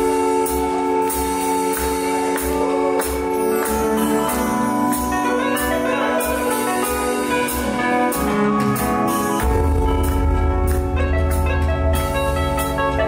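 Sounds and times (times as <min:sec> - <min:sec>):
electronic keyboard dance music: 0:00.0 - 0:13.0.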